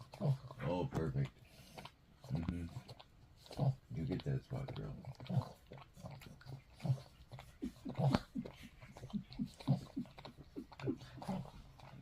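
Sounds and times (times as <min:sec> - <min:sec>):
dog licking and breathing: 0:00.0 - 0:12.0.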